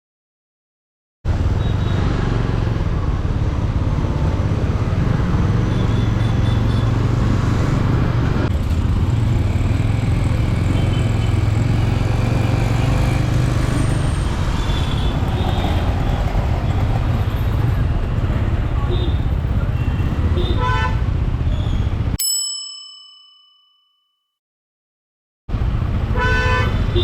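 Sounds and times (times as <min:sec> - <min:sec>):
wind and road noise: 0:01.3 - 0:22.2, 0:25.5 - 0:27.0.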